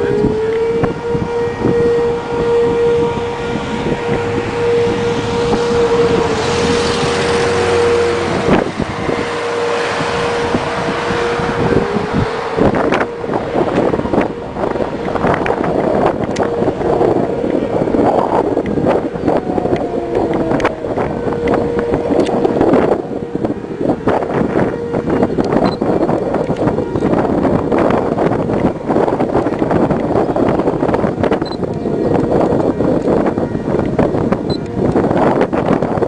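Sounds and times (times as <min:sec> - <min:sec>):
warning siren steady tone: 0:00.0 - 0:36.0
wind buffeting microphone: 0:00.0 - 0:36.0.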